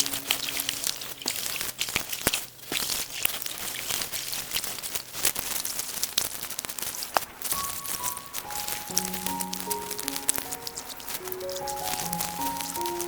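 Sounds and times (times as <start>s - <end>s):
water splashing and dripping: 0.0s - 4.7s, 7.0s - 13.0s
plants rustling and crinkling: 0.0s - 13.0s
small crackles and ticks: 0.0s - 13.0s.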